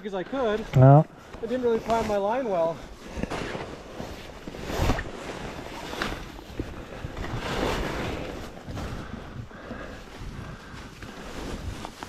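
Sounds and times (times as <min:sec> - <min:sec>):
gloves and jacket rustling: 0:00.3 - 0:12.0.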